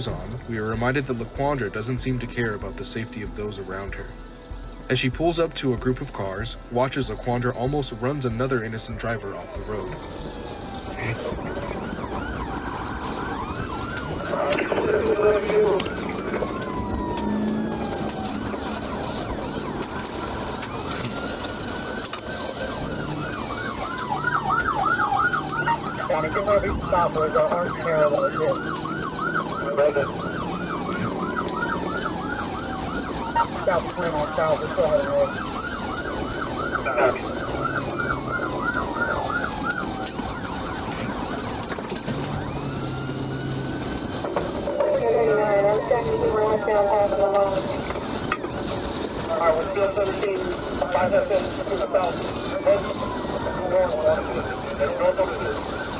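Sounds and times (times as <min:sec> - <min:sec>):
road and engine noise: 0:00.0 - 0:55.9
police siren wailing and yelping: 0:08.9 - 0:55.9.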